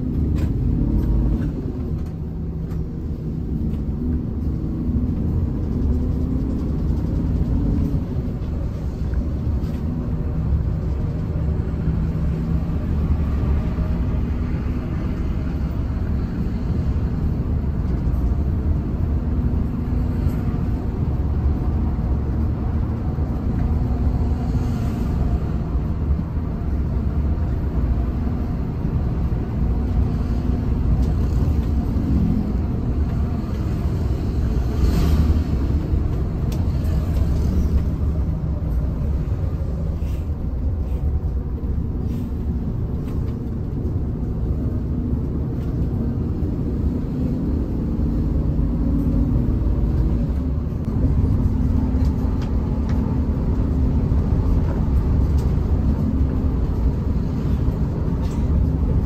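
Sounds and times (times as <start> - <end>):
bus engine rumble: 0.0 - 59.0.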